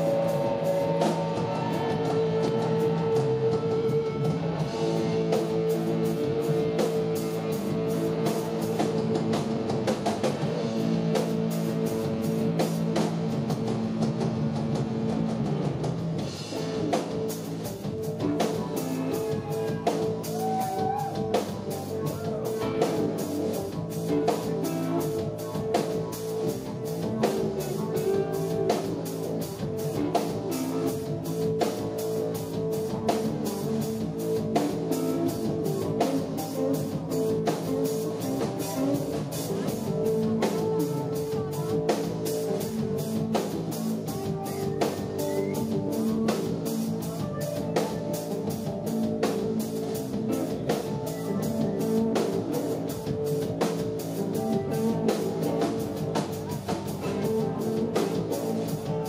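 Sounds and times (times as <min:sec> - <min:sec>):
drum kit beat: 0:00.0 - 0:59.0
rock band playing: 0:00.0 - 0:59.0.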